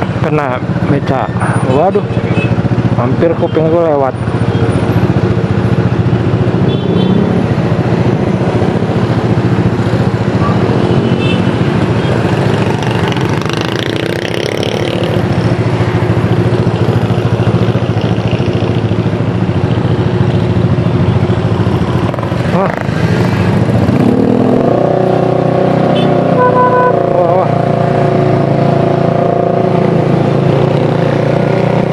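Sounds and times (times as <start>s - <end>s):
motorcycle engine running: 0.0s - 31.9s
road and wind noise: 0.0s - 31.9s.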